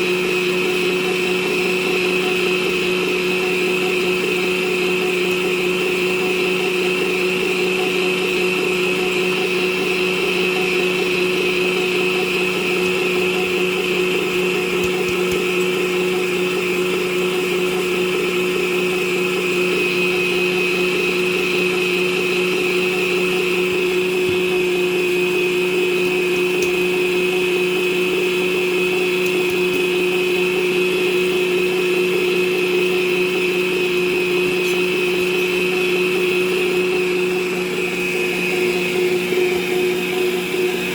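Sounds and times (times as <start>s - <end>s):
kitchen mixer motor whining: 0.0s - 40.9s.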